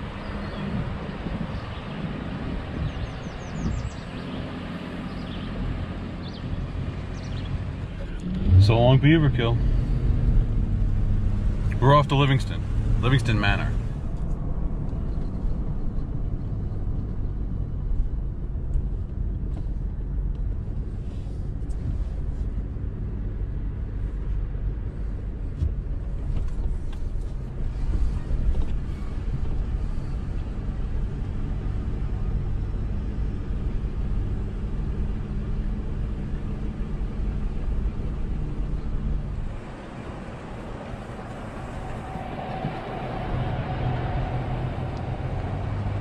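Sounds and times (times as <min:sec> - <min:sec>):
truck engine and road rumble: 0:00.0 - 0:46.0.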